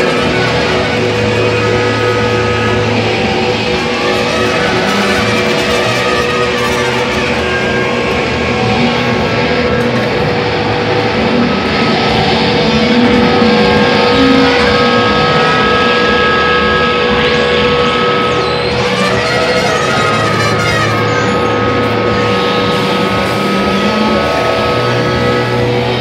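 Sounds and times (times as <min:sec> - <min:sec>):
distorted band drone: 0:00.0 - 0:26.0.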